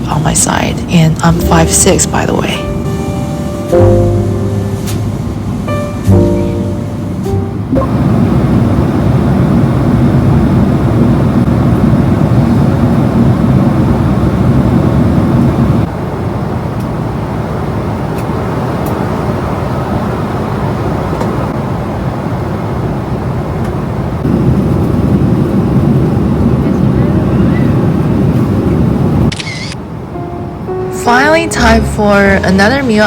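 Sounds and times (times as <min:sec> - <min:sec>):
airliner cabin engine rush: 0:00.0 - 0:33.0.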